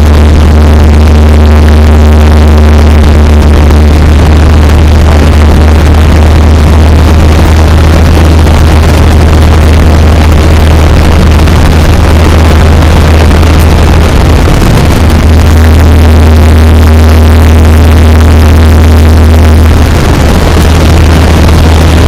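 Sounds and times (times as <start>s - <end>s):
aircraft engine droning: 0.0s - 22.0s
rushing air: 0.0s - 22.0s.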